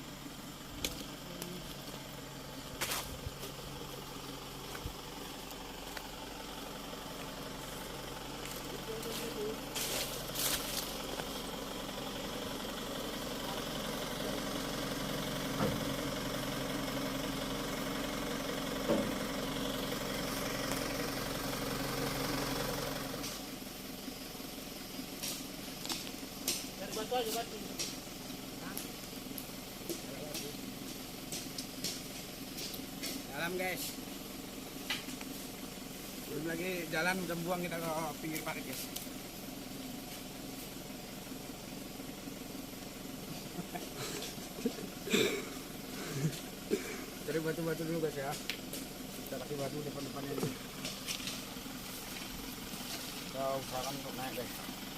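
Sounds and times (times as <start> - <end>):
dump truck engine idling: 0.0 - 54.9.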